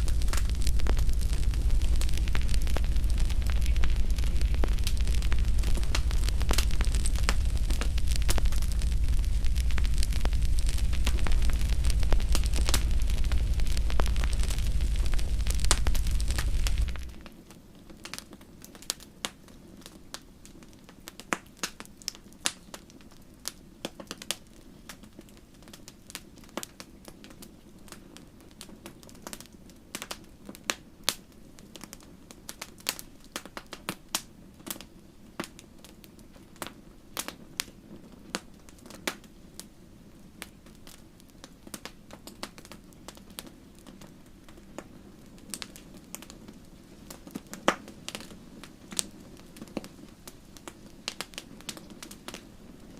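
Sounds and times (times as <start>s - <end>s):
low rumble of burning: 0.0s - 52.9s
wood fire crackling: 0.0s - 52.9s.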